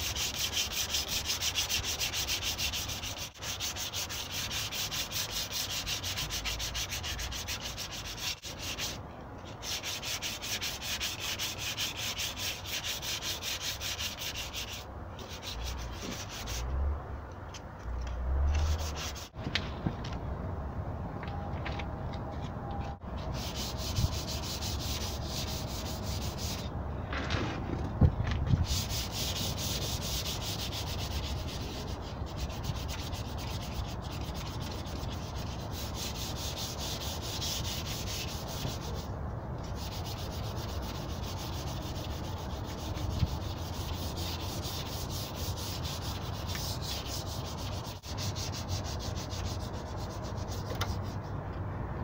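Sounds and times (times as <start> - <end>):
sandpaper scratching: 0.0 - 16.7, 18.5 - 19.4, 23.2 - 26.7, 28.6 - 51.4.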